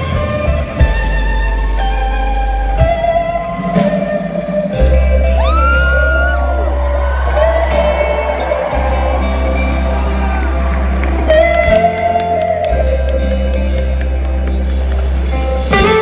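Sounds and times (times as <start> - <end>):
bass: 0.0 - 16.0
drums: 0.0 - 16.0
electric guitar bending notes: 0.0 - 16.0.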